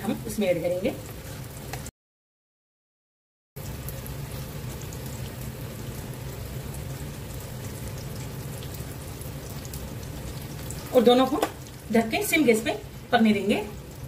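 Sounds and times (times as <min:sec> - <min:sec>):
batter sizzling in oil: 0:00.0 - 0:01.9, 0:03.6 - 0:14.0.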